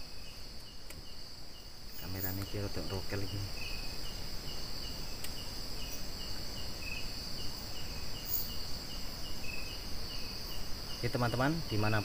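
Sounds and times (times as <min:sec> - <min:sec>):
crickets droning: 0:00.0 - 0:12.0
insect chirping: 0:00.0 - 0:12.0.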